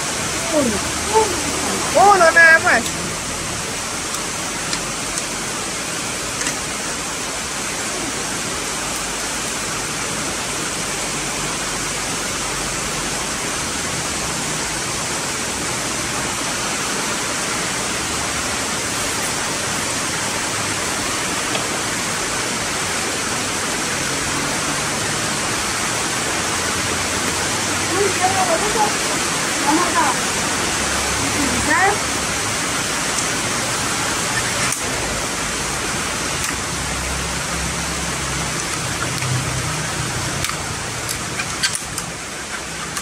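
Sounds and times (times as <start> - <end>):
heavy rain downpour: 0.0 - 43.0.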